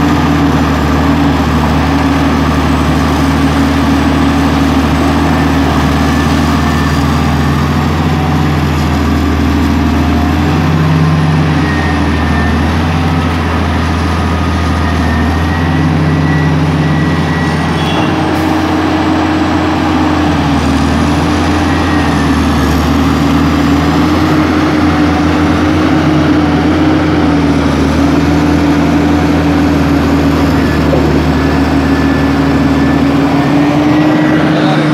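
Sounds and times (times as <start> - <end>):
heavy diesel engines droning: 0.0 - 34.9.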